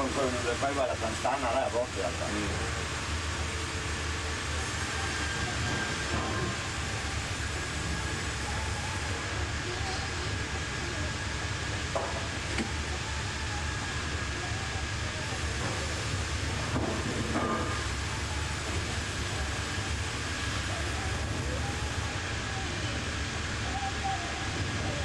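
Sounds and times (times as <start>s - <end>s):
sawmill machinery running: 0.0s - 23.6s
thin steady whine: 0.0s - 25.0s.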